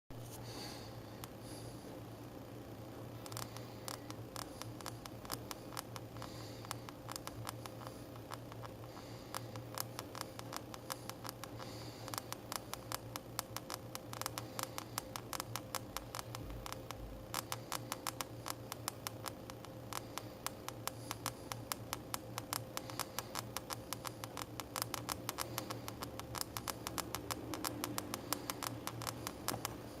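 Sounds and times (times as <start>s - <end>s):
small sharp clicks and crackles: 0.2s - 30.0s.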